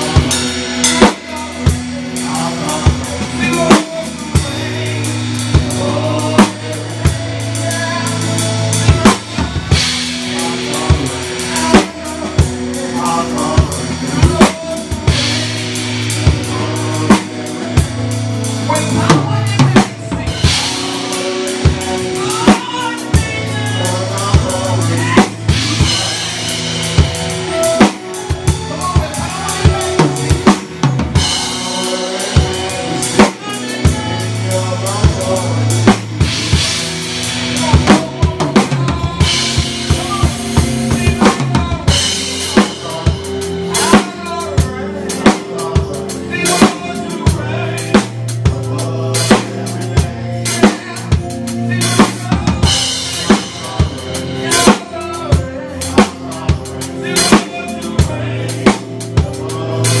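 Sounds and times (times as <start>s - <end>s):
drum kit groove: 0.0s - 60.0s
low bass notes: 0.0s - 60.0s.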